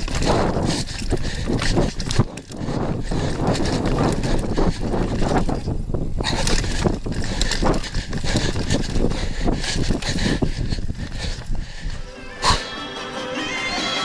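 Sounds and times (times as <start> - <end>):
tyres rumbling on dirt: 0.0 - 11.9
bike rattling over bumps: 0.0 - 12.6
wind on microphone: 0.0 - 12.7.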